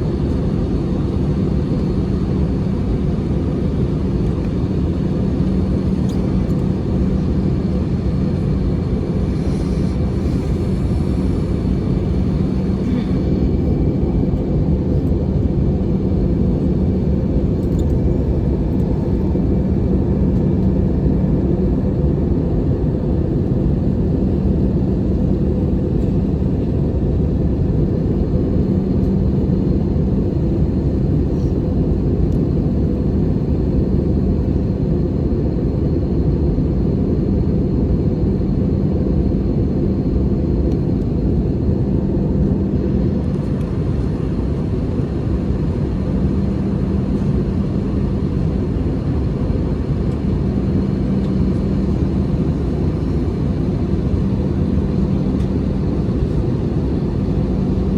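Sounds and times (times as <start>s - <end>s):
airplane cabin rumble: 0.0s - 57.9s.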